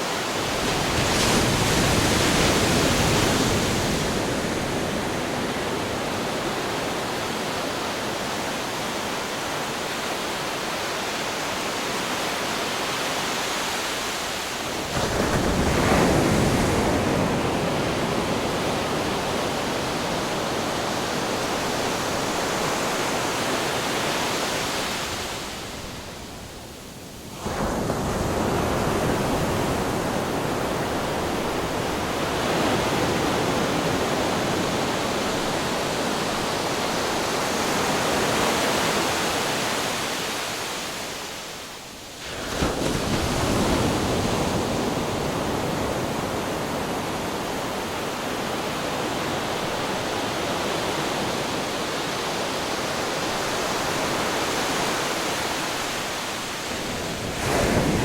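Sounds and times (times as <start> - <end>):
waves crashing on rocks: 0.0 - 25.8, 27.4 - 58.0.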